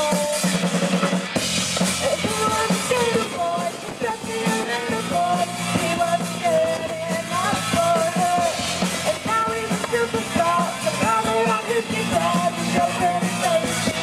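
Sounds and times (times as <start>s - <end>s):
bass guitar: 0.0s - 14.0s
drum kit: 0.0s - 14.0s
electric guitar: 0.0s - 14.0s
woman singing: 2.0s - 14.0s.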